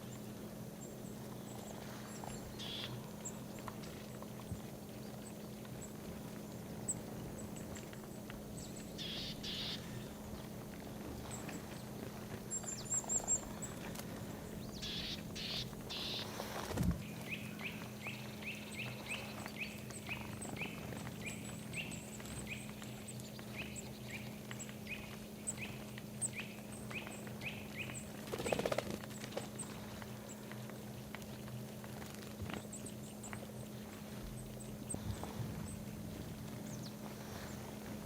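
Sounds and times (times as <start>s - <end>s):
faint high ticking bird calls: 0.0s - 38.0s.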